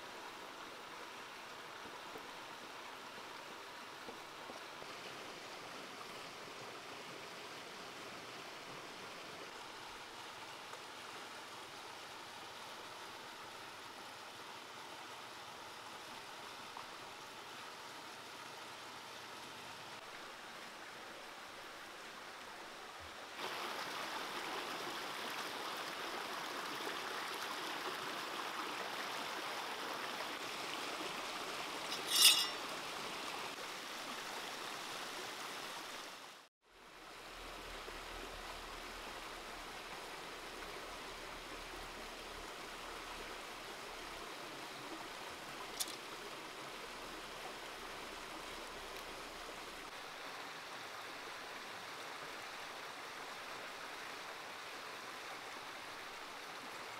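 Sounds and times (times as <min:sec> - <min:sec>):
stream rushing over stones: 0:00.0 - 0:56.9.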